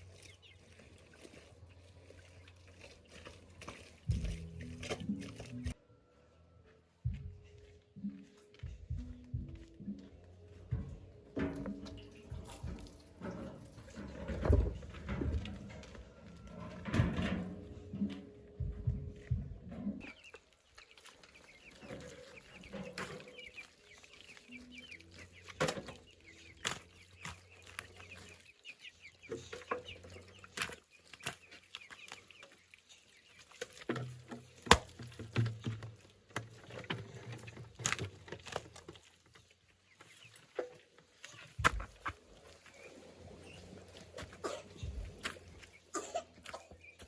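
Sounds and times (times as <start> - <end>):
chickens clucking: 0.0 - 5.8, 7.1 - 47.0.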